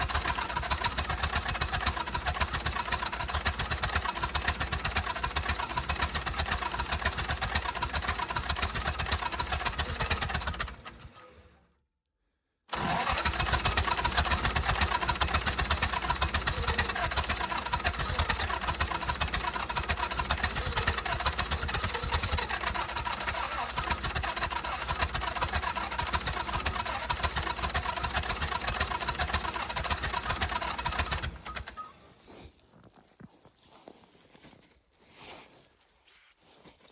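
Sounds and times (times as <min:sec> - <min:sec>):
engine cranking by starter: 0:00.0 - 0:11.8, 0:12.7 - 0:32.1.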